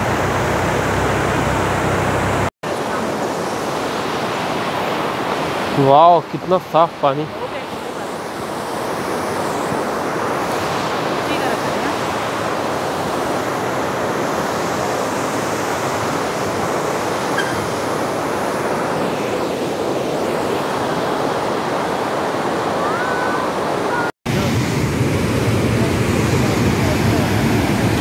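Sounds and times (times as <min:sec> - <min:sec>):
stream rushing over boulders: 0:00.0 - 0:24.5.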